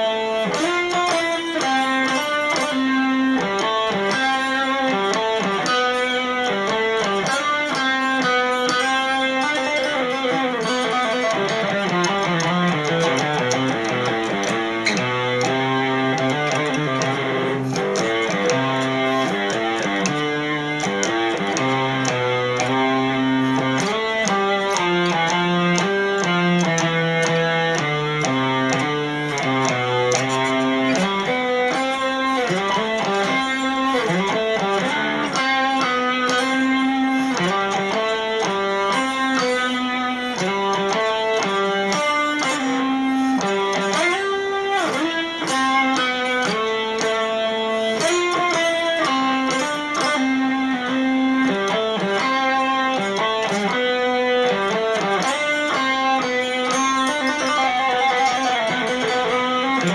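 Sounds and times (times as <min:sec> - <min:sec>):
solo guitar plucked melody: 0:00.0 - 0:59.9.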